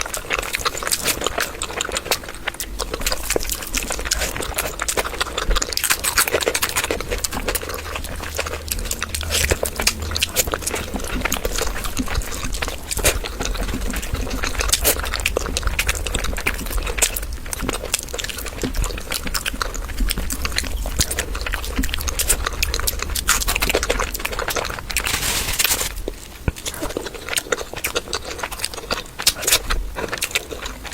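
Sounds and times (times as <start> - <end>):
person chewing and lip-smacking: 0.0 - 25.1, 26.4 - 30.9.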